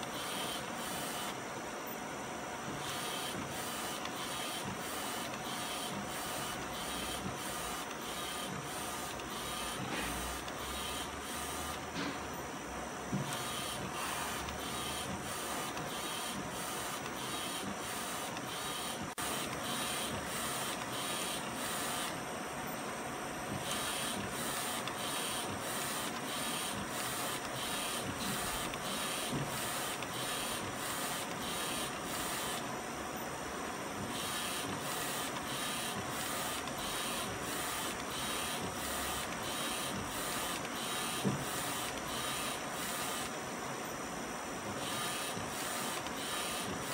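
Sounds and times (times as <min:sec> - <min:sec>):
inkjet printer carriage whirring: 0:00.0 - 0:46.9.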